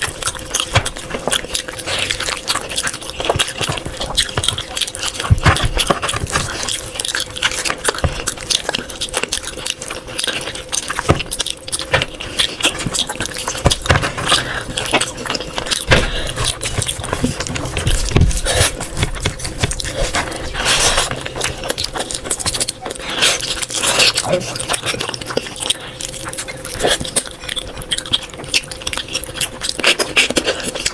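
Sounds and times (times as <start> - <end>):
person chewing with wet smacks: 0.0 - 30.9.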